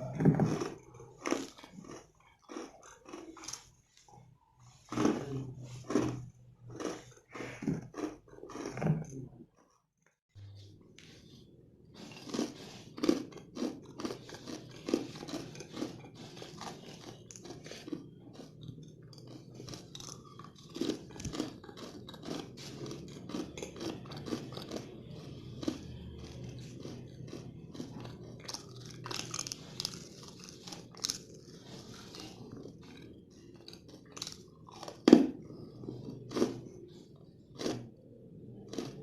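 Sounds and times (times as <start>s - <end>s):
crunchy candy chewing: 0.0s - 3.8s, 4.6s - 9.3s, 12.0s - 39.0s.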